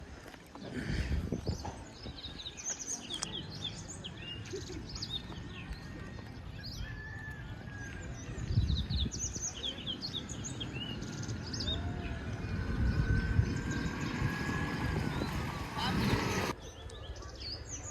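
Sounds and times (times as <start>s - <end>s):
small birds chirping: 0.9s - 17.9s.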